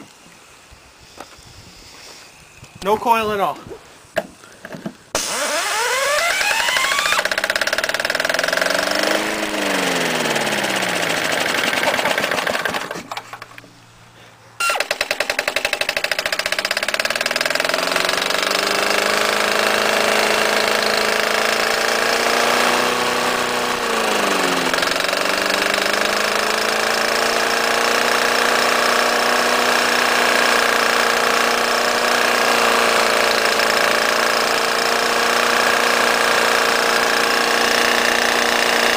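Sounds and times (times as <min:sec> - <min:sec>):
small engine running: 0:05.2 - 0:13.6, 0:14.6 - 0:38.9.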